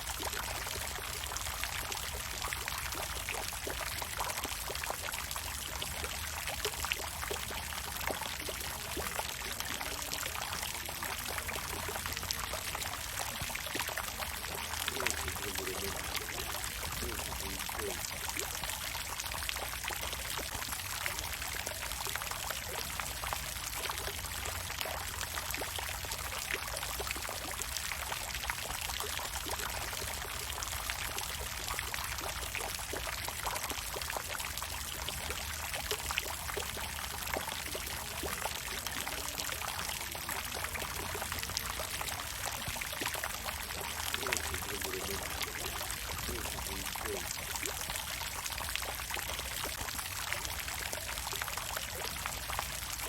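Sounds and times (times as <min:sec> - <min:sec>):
water fountain splashing: 0:00.0 - 0:53.0.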